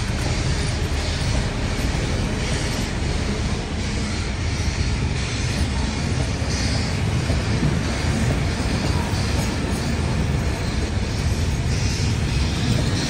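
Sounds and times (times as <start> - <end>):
steel wheels rumbling on rails: 0.0 - 13.0.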